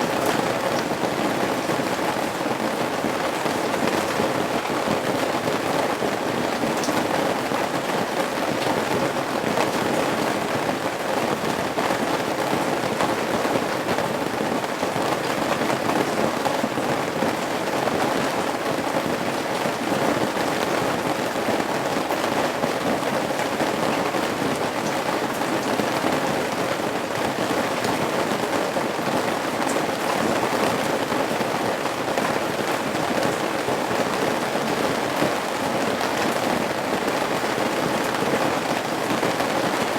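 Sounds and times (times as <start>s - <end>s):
rain pattering and dripping: 0.0s - 39.9s.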